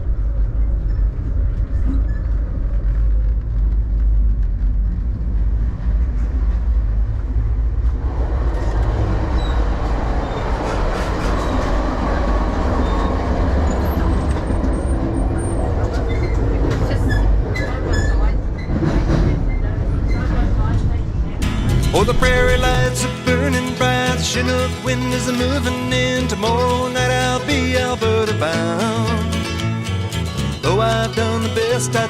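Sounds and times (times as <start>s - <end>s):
train rumbling on rails: 0.0s - 29.3s.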